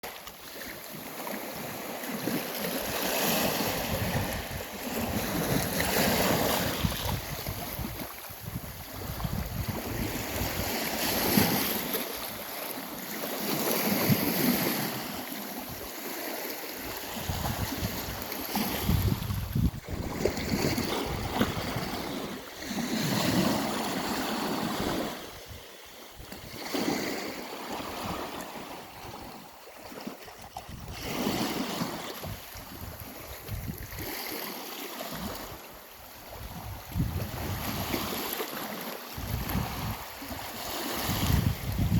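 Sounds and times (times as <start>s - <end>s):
sea waves breaking: 0.0s - 41.9s
wind on microphone: 1.6s - 12.5s, 16.8s - 34.2s, 35.1s - 38.4s, 39.1s - 41.9s.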